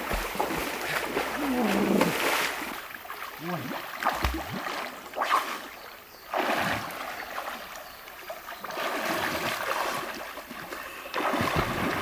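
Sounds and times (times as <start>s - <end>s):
stream rushing: 0.0s - 12.0s
water splashing: 0.0s - 12.0s.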